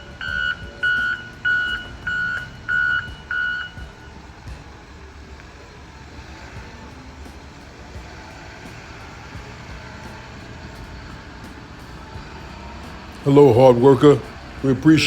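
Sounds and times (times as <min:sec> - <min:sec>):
loader engine rumbling: 0:00.0 - 0:15.0.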